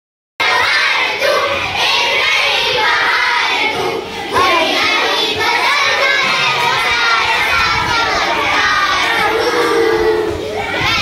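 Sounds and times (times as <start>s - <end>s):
children singing together: 0.4s - 11.0s.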